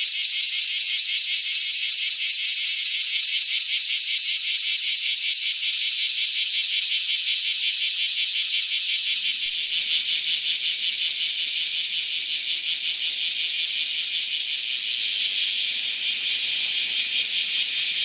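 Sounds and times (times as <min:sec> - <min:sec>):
cicada rasping buzz: 0:00.0 - 0:18.0.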